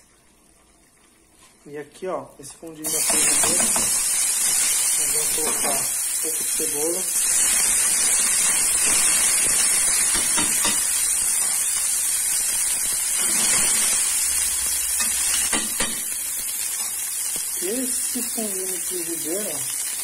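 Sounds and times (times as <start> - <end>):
onion sizzling in frying pan: 2.4 - 20.0.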